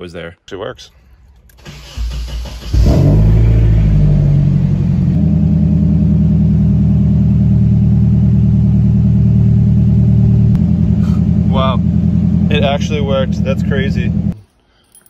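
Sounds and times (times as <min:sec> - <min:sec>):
car engine starting and idling: 0:01.3 - 0:14.4.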